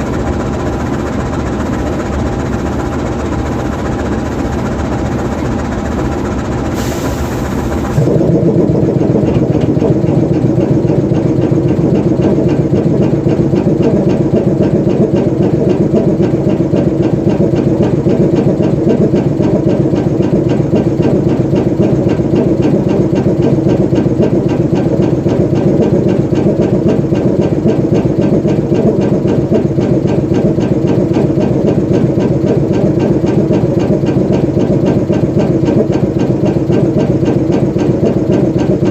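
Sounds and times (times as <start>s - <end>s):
locomotive diesel engine running: 0.0s - 38.9s.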